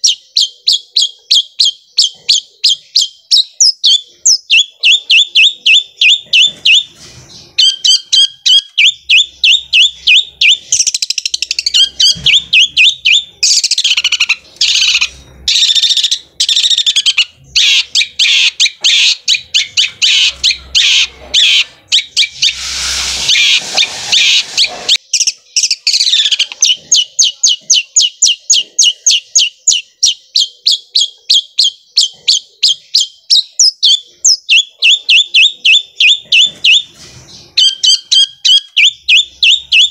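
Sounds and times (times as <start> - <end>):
bird singing rolling chatter: 0.0 - 39.9.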